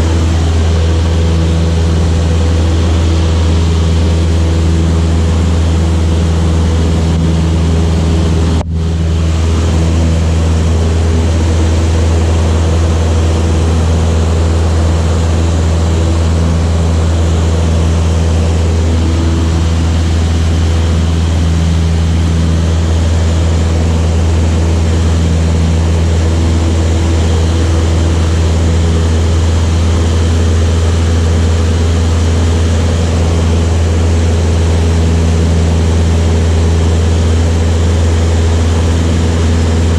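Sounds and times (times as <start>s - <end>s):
propeller aircraft engine running: 0.0s - 39.9s.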